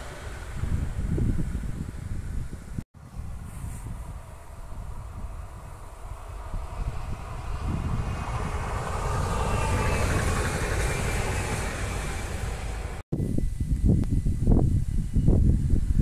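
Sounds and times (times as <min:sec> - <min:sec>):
electric train passing: 0:00.0 - 0:13.6
wind on microphone: 0:00.0 - 0:16.0.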